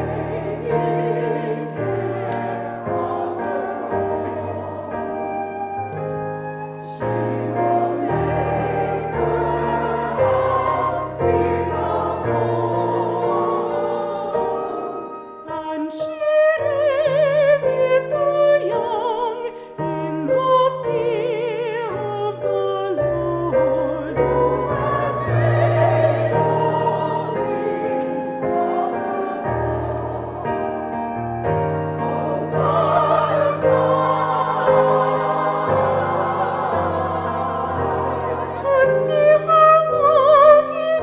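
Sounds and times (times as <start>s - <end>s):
operatic singing: 0.0s - 41.0s.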